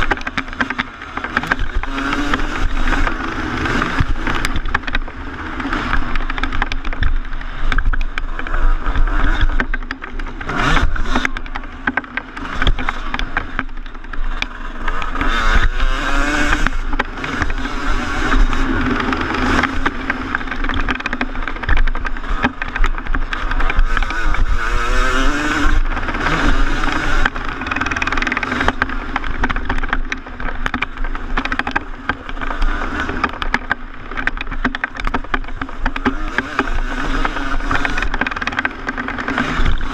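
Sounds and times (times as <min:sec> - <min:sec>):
bike knocks and clatter: 0:00.0 - 0:39.9
two-stroke motorcycle engine revving: 0:00.0 - 0:39.9.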